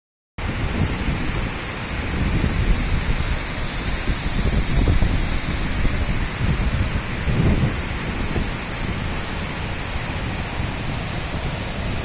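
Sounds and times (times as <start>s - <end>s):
water cascading over weir: 0.4s - 12.0s.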